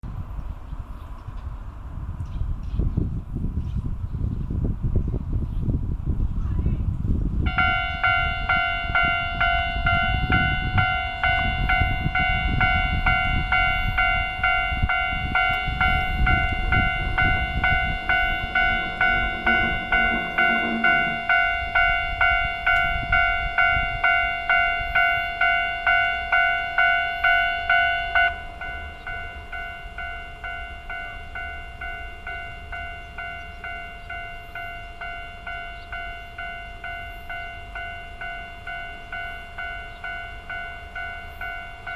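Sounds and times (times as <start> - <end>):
electric train rumbling past: 7.3 - 41.9
level-crossing alarm bell ringing: 7.5 - 41.9.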